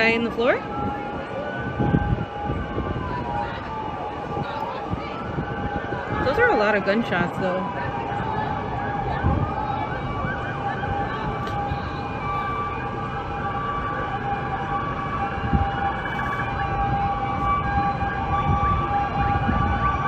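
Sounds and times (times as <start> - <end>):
sirens steady high tones: 0.0 - 20.0
sirens wailing: 0.0 - 20.0.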